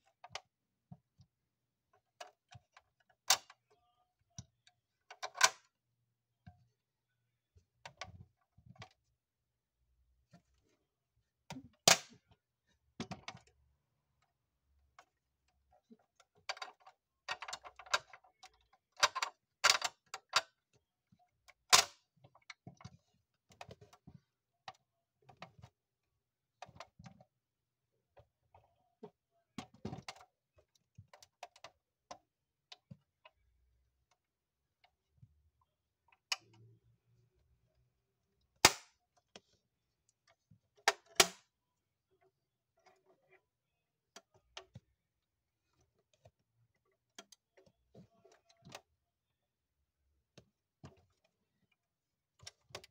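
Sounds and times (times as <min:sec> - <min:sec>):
small clattering handling noises: 0:07.5 - 0:09.3, 0:10.2 - 0:37.8, 0:38.6 - 0:49.3, 0:50.2 - 0:52.9.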